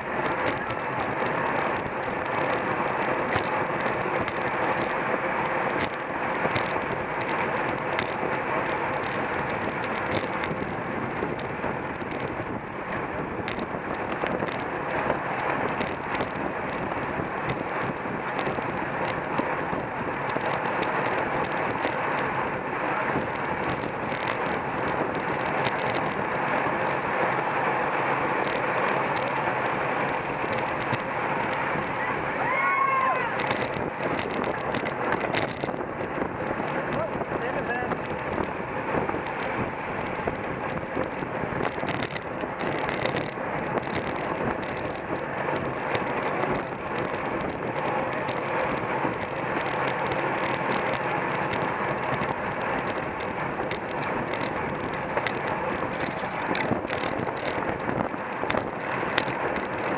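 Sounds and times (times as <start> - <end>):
wind on microphone: 0.0 - 27.2, 28.2 - 59.9
bicycle road noise: 0.0 - 59.9.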